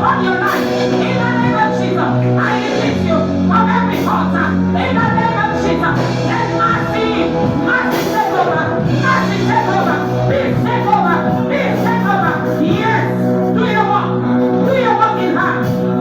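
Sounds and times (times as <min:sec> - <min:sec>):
held low chords: 0:00.0 - 0:16.0.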